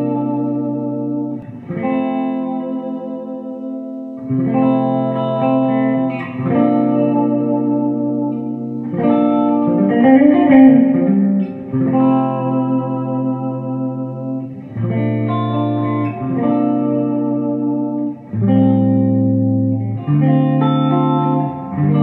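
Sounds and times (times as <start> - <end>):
electric guitar chords ringing: 0.0 - 22.0.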